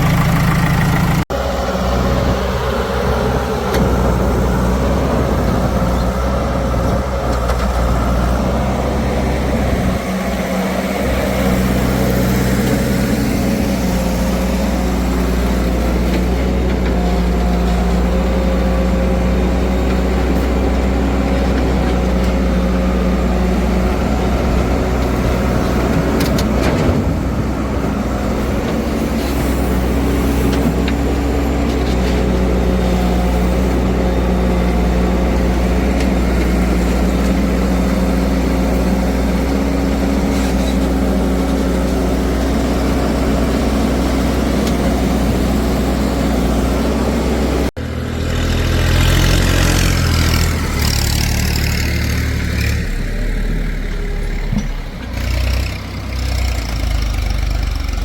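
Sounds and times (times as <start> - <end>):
heavy machine engine droning: 0.0 - 58.0.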